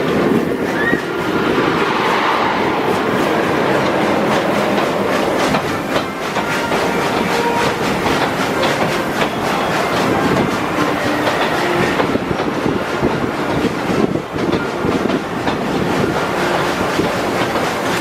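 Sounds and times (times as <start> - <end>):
train wheels clacking on rails: 0.0 - 18.0.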